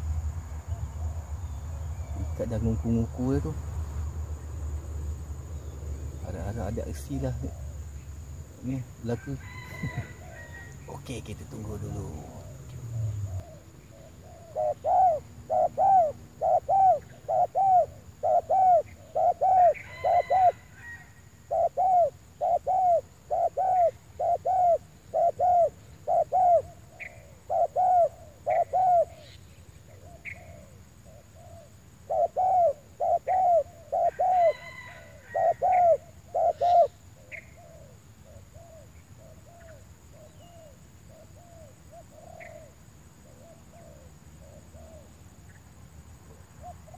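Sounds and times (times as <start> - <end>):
dove cooing: 6.2 - 7.8, 8.6 - 45.2, 46.6 - 46.9.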